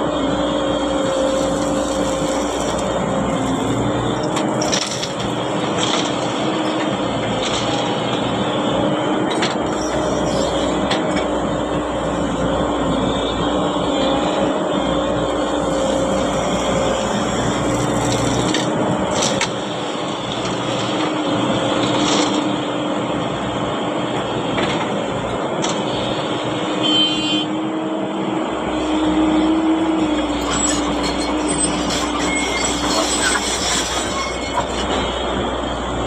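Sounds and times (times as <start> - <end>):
diesel engine droning: 0.0 - 26.8, 27.5 - 36.0.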